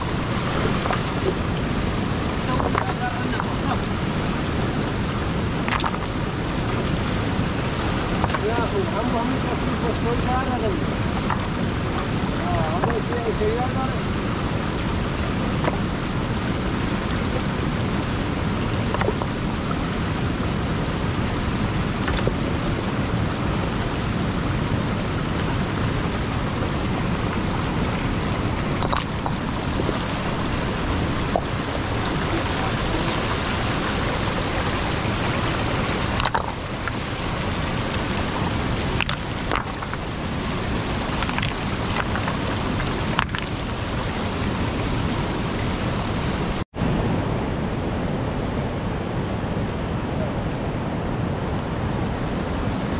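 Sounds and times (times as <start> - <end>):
river rushing over stones: 0.0 - 52.9.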